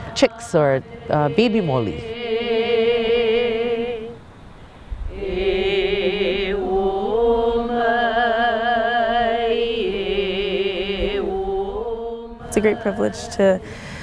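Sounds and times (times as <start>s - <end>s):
person chanting with vibrato: 0.0s - 4.2s, 5.1s - 14.0s.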